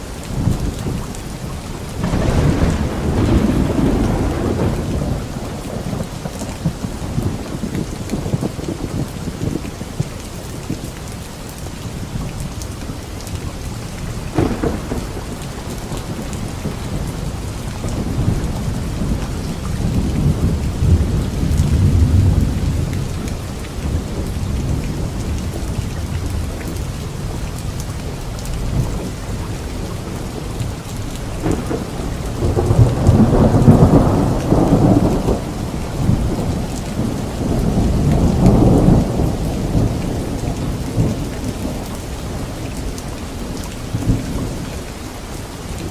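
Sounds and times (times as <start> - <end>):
light rain on leaves: 0.0 - 45.9
thunder rumbling: 0.3 - 10.1, 13.4 - 44.9.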